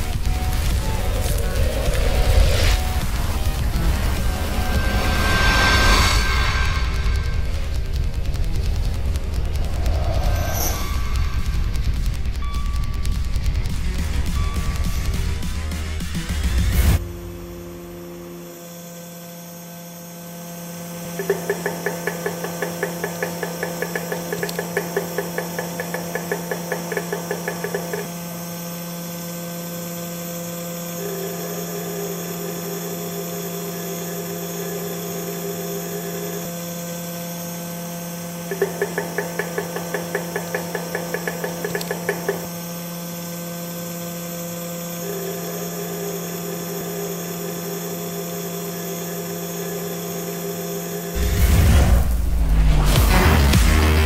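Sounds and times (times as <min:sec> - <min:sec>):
test machine humming: 0:00.0 - 0:54.0.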